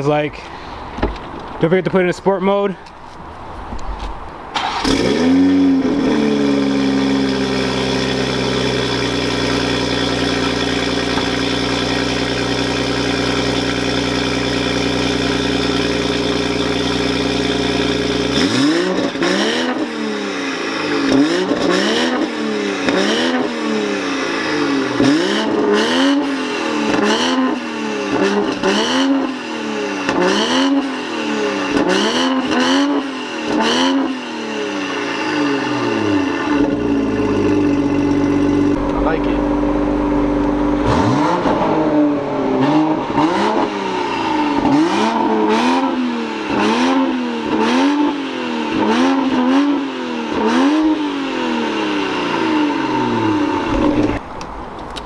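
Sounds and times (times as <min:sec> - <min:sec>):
car engine idling and revving: 0:03.7 - 0:55.0.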